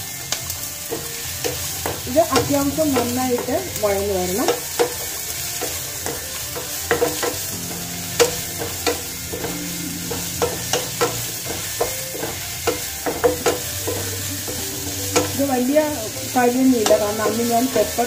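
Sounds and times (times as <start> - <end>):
onions sizzling in oil: 0.0 - 18.0
spatula scraping a pan: 0.0 - 18.0.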